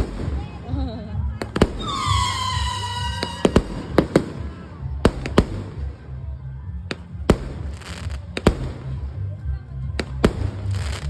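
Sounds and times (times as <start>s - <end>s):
fireworks bangs: 0.0s - 6.1s, 6.9s - 9.2s, 10.0s - 11.0s
low rumble: 0.0s - 11.0s.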